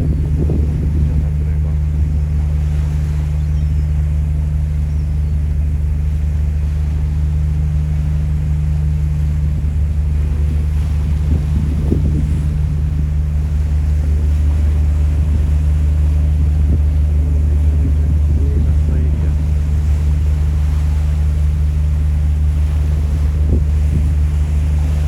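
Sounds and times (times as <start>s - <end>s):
ferry engine droning: 0.0s - 25.0s.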